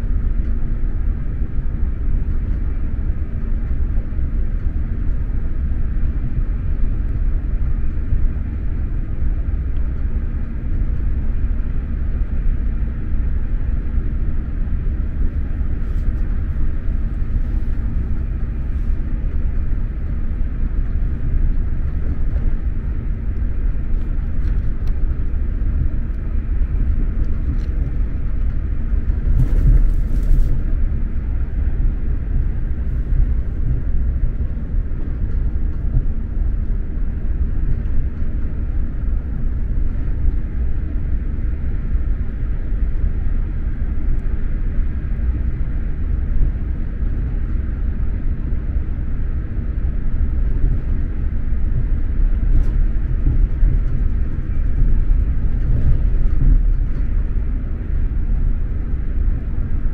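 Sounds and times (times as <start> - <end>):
train wheels and track rumble: 0.0 - 48.8, 49.4 - 59.9.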